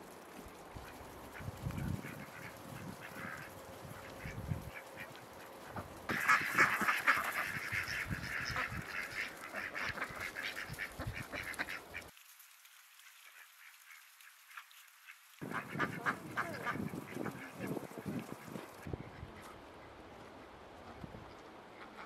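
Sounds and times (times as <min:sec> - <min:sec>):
ducks quacking: 0:00.8 - 0:12.1, 0:13.3 - 0:19.9, 0:21.7 - 0:22.0.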